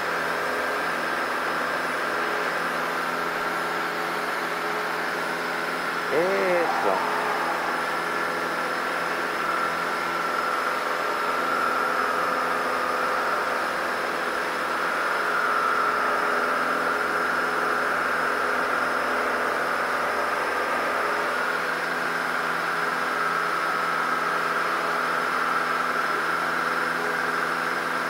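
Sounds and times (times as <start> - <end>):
small plane engine droning: 0.0 - 28.0.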